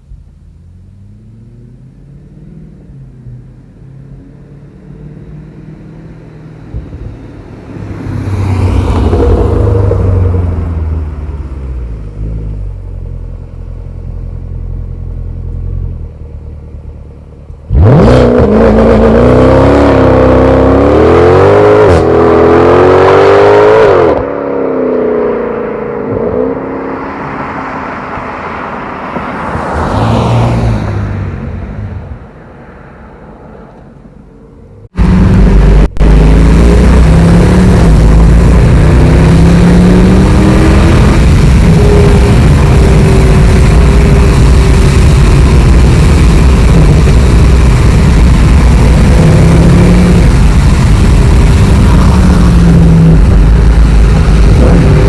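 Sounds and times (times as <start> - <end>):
car engine accelerating hard: 0.0 - 32.4, 33.6 - 55.0.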